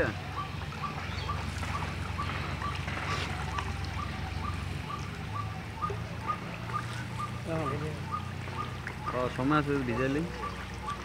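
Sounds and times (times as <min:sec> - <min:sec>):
bird chirping: 0:00.0 - 0:11.0
fish splashing at water surface: 0:00.0 - 0:11.0.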